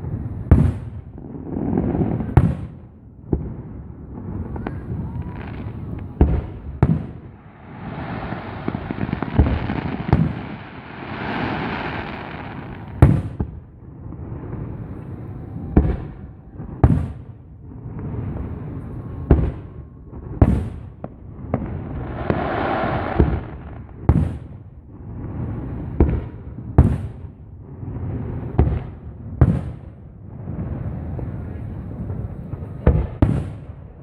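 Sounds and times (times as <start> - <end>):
fireworks crackling and hissing: 0.0 - 34.0.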